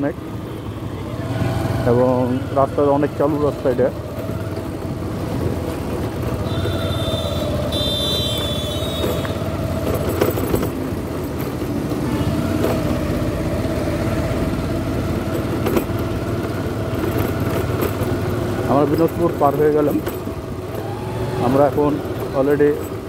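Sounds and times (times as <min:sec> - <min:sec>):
motorcycle engine and road noise: 0:00.0 - 0:23.0.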